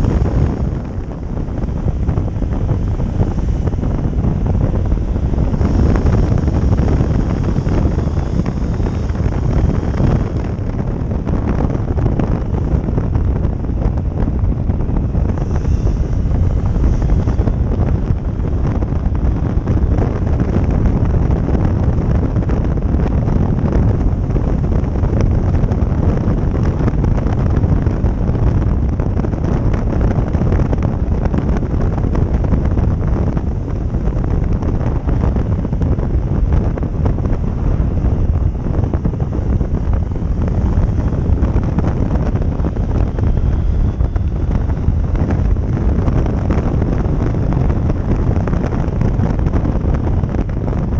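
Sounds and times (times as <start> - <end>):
motorcycle and road noise: 0.0 - 50.9
wind noise on microphone: 0.0 - 50.9.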